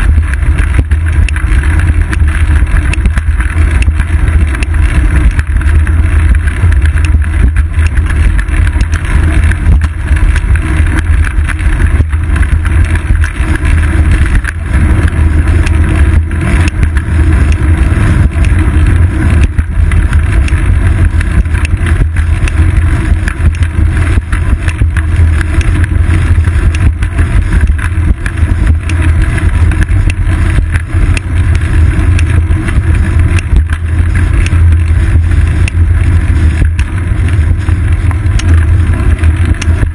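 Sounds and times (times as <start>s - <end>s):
bicycle riding vibration: 0.0s - 39.9s
motor traffic: 0.0s - 39.9s
wind rumble: 0.0s - 39.9s.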